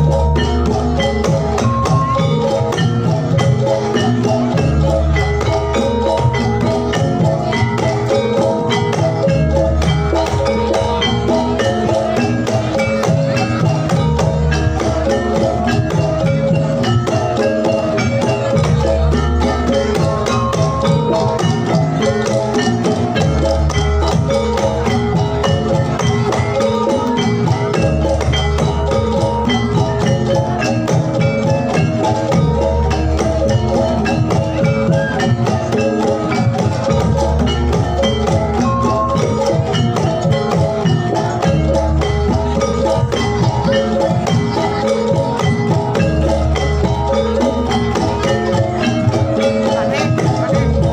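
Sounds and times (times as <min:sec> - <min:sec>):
drum and percussion strokes: 0:00.0 - 0:50.9
metallophones ringing: 0:00.0 - 0:50.9.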